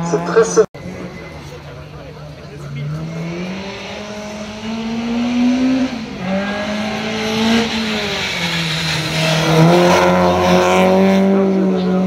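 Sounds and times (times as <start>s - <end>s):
car engine revving hard: 0.8s - 12.0s.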